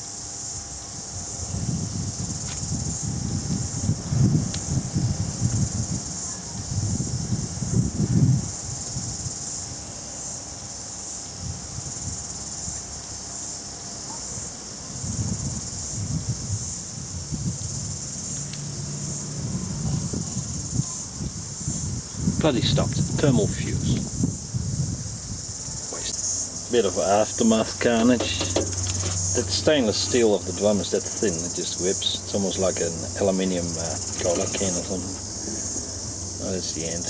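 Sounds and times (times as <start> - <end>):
faint motor hum: 0.0 - 37.0
insects chirping: 0.0 - 37.0.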